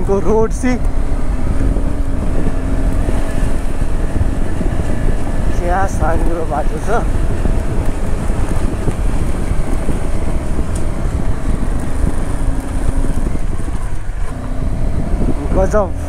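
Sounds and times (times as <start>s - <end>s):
motorcycle engine running: 0.0s - 16.0s
wind rumbling on microphone: 0.0s - 16.0s.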